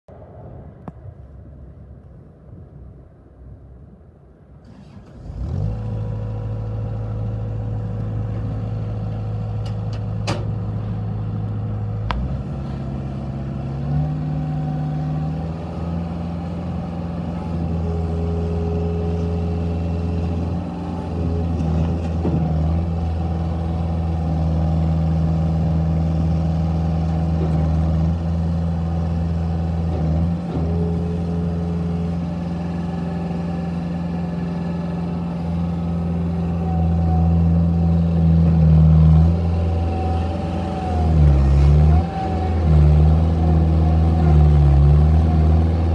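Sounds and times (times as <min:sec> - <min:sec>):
loader engine starting and idling: 0:04.6 - 0:45.9.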